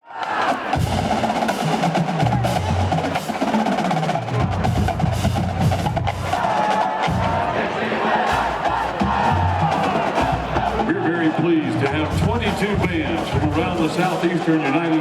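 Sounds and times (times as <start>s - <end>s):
marching drumline cadence: 0.0s - 15.0s.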